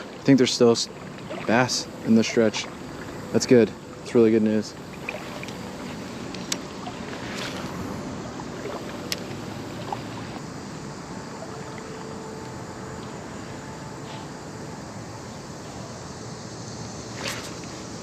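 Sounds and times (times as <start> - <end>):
flowing creek water: 0.0 - 18.0
road traffic noise: 0.0 - 18.0.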